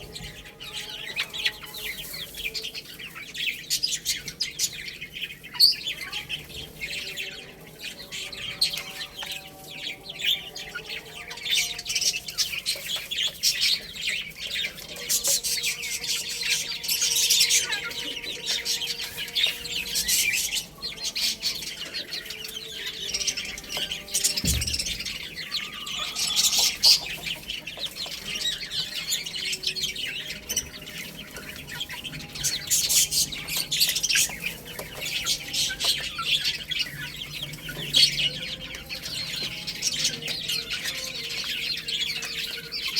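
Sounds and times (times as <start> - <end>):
baby chicks cheeping: 0.0 - 42.9.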